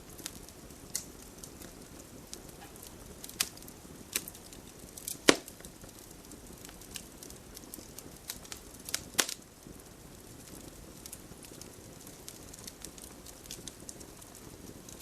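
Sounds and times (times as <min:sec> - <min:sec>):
low steady hiss: 0:00.0 - 0:15.0
wood fire crackling and popping: 0:00.0 - 0:15.0.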